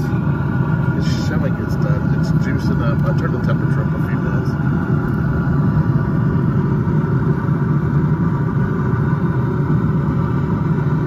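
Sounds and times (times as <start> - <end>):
motor droning: 0.0 - 11.0.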